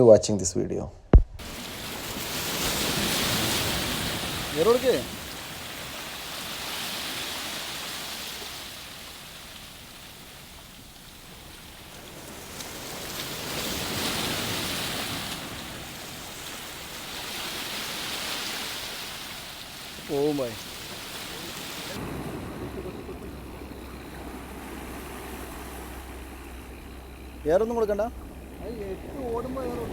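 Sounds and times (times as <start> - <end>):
sea waves washing in: 1.4 - 29.9.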